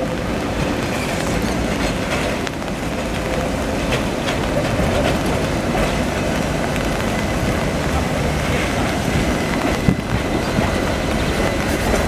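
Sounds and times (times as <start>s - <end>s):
tram rolling past: 0.0s - 12.0s
wheels clicking over rail joints: 0.2s - 12.0s.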